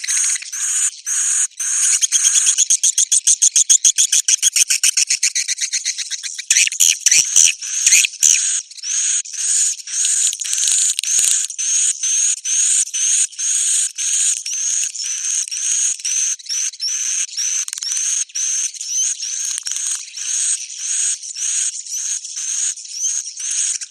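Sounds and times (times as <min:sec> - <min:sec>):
raspy bird calls: 0:00.0 - 0:23.9.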